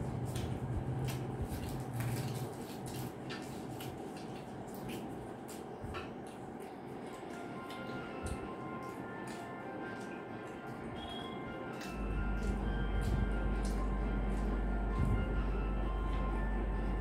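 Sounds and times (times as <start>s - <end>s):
low steady hum: 0.0s - 17.0s
people chewing: 0.0s - 17.0s.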